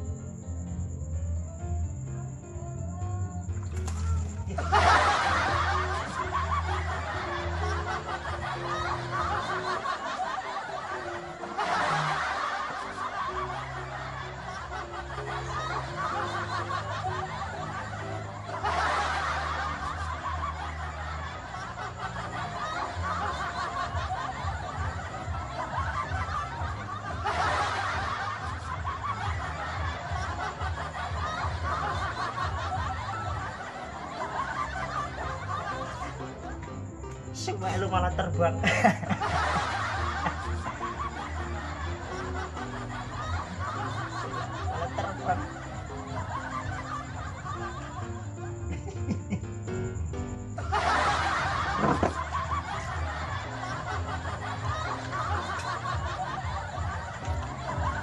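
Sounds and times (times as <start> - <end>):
background music: 0.0 - 58.0
group laughing: 3.4 - 37.0, 37.6 - 49.7, 50.4 - 58.0.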